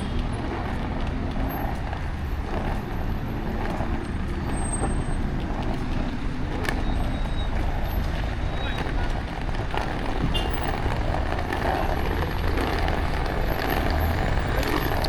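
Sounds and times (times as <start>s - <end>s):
city traffic engines: 0.0s - 15.0s.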